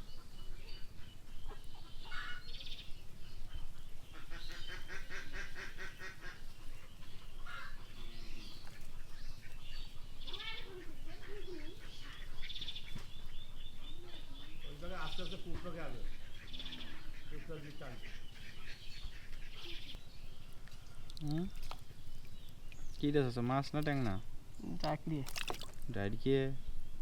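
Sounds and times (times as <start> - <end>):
birds chattering: 0.0 - 27.0.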